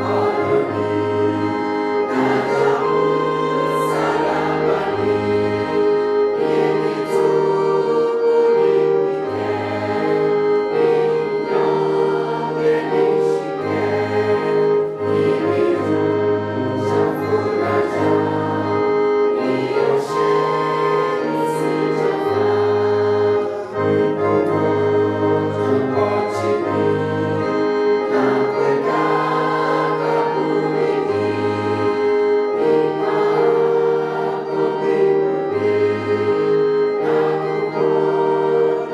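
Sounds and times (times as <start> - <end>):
choir singing: 0.0 - 38.9
sustained keyboard chords: 0.0 - 38.9.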